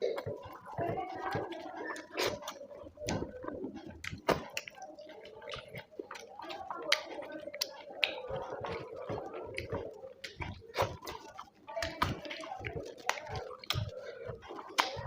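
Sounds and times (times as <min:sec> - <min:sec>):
wet chewing and lip smacking: 0:00.0 - 0:15.0.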